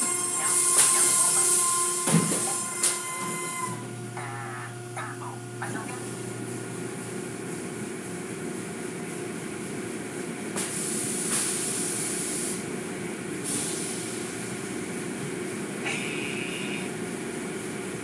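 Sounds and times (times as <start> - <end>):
car wash machinery hum: 0.0 - 18.0.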